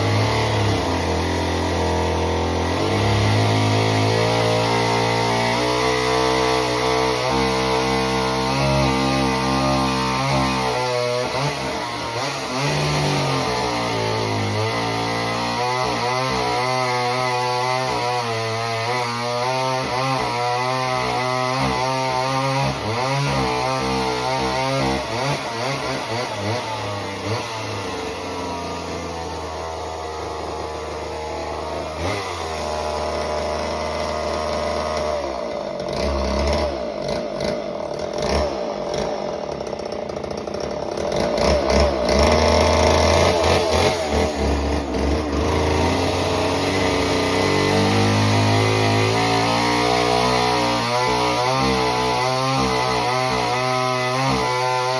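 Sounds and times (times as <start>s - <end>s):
chainsaw engine revving: 0.0s - 54.9s.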